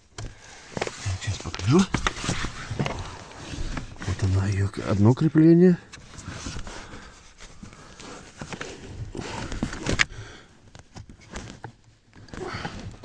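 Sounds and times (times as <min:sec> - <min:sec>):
rustling of wiring: 0:00.0 - 0:13.0.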